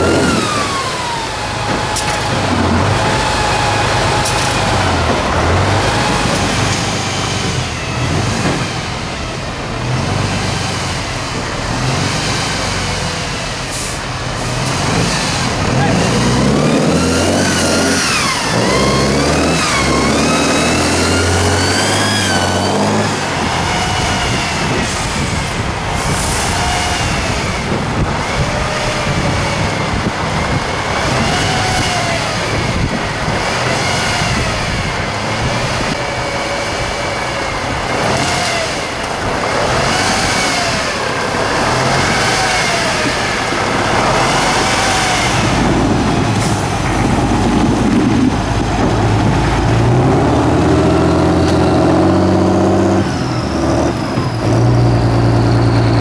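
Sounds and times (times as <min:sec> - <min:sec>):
truck diesel engine revving: 0:00.0 - 0:56.0.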